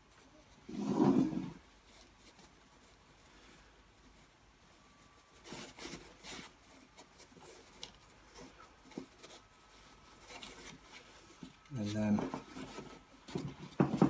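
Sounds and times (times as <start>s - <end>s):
fabric rustling and scraping: 0.0s - 14.0s.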